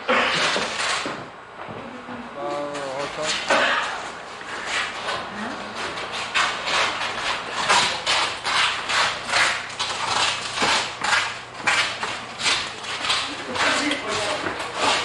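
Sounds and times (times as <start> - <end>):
rhythmic rasping scraping strokes: 2.5 - 15.0.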